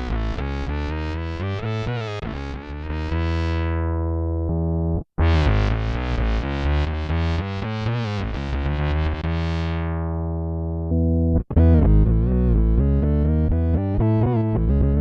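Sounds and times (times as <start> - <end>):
synth bass notes: 0.0 - 15.0.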